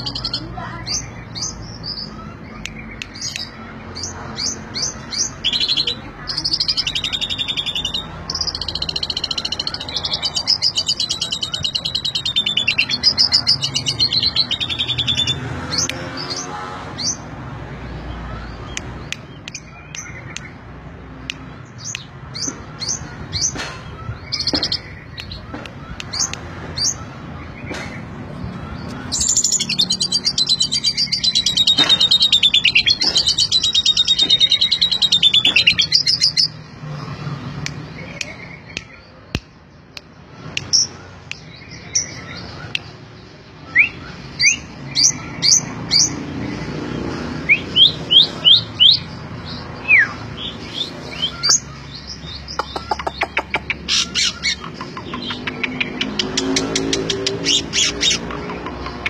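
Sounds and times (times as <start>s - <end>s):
starling singing: 0.0s - 36.7s, 37.7s - 59.0s.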